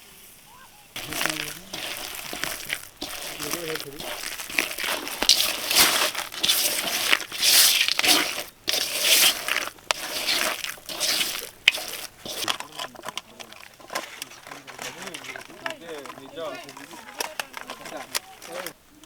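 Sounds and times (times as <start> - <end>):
potatoes being crushed by hand: 1.0 - 18.8.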